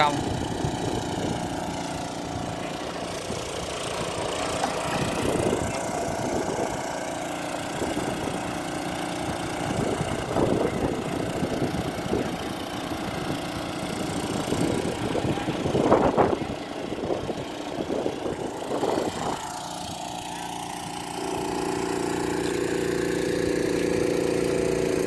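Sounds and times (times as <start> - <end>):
motor running: 0.0 - 25.0.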